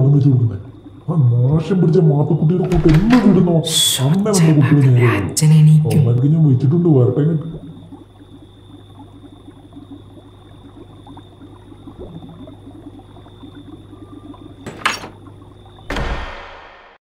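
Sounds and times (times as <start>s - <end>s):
aquarium water bubbling: 0.0s - 15.9s.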